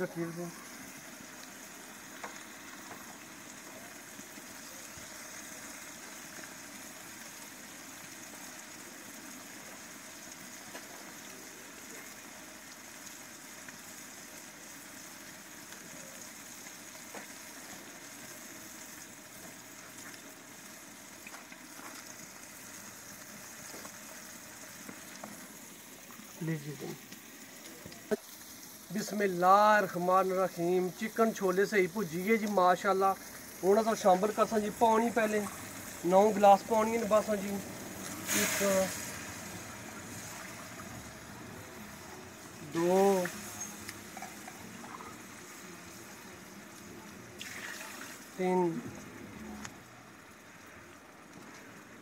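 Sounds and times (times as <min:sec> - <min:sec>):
pot boiling with bubbling hiss: 0:00.0 - 0:52.0.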